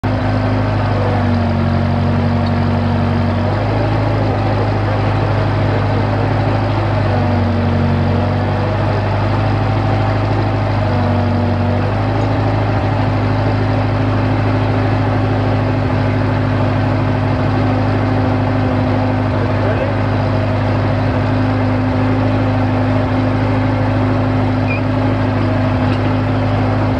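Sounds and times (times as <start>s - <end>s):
drill rig engine running: 0.0s - 26.9s.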